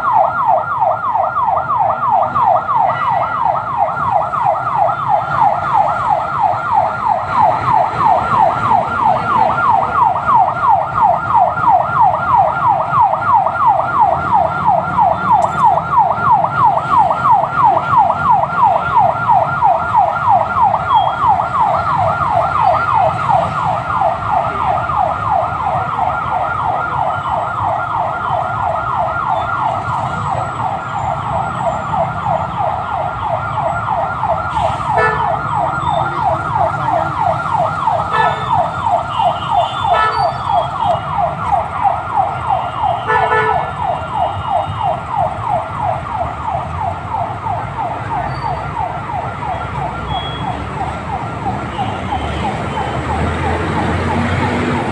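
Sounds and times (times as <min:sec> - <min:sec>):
low rumble of traffic: 0:00.0 - 0:54.9
siren yelping: 0:00.0 - 0:54.9.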